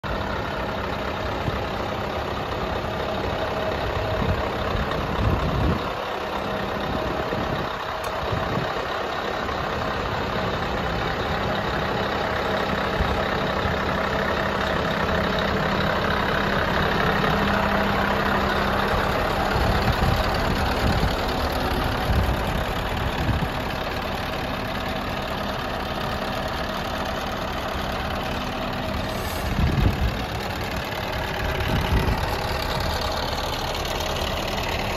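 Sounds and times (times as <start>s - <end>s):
diesel engine idling: 0.0s - 34.9s
low buffets: 0.1s - 34.9s.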